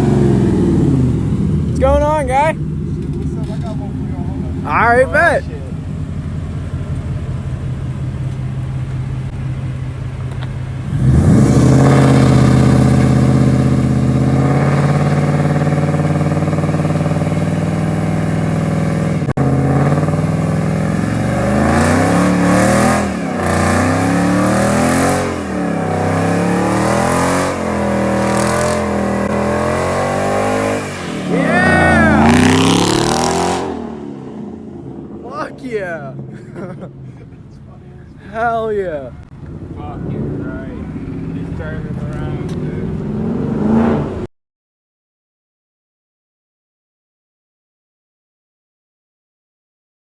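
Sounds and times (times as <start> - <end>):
car engine revving: 0.0 - 44.3.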